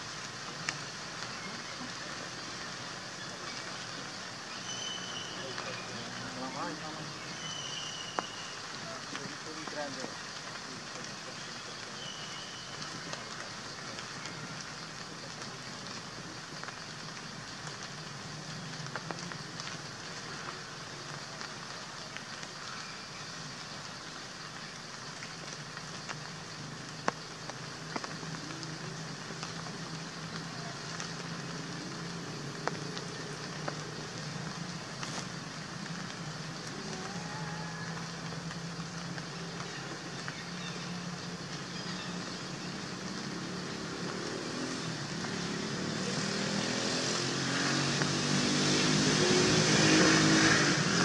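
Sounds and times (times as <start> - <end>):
rain falling on foliage: 0.0 - 51.0.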